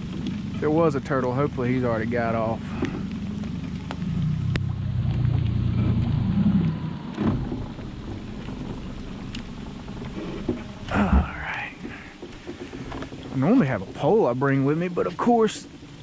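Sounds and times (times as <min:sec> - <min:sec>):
boat engine rumble: 0:00.0 - 0:16.0.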